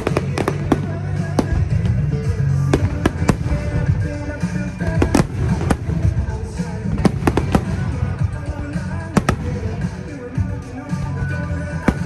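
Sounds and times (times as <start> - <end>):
fireworks bangs: 0.0 - 10.4
loud bass-heavy music: 0.0 - 12.0.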